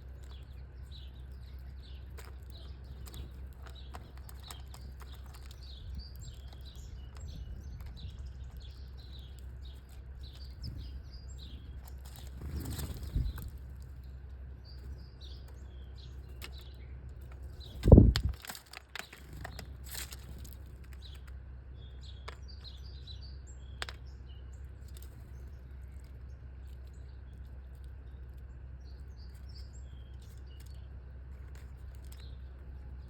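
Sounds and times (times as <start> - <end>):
low steady background noise: 0.0 - 33.0
small birds chirping: 0.0 - 33.0.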